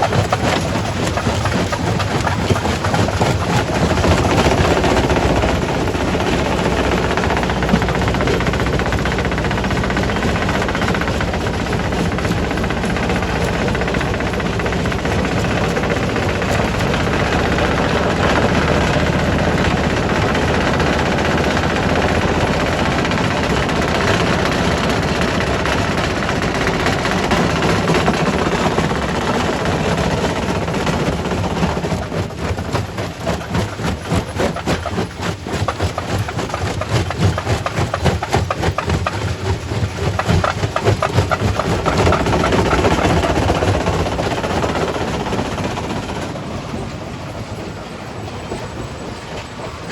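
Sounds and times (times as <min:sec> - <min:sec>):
rock crusher crushing stone: 0:00.0 - 0:45.4.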